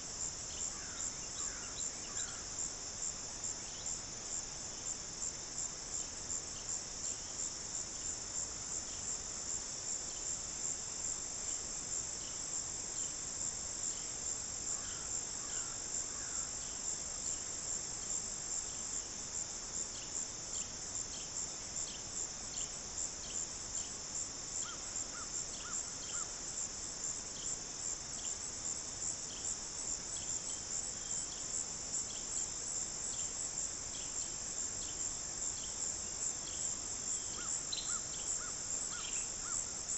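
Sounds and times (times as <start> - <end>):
crickets trilling: 0.0 - 39.9
insects chirping: 0.0 - 39.9.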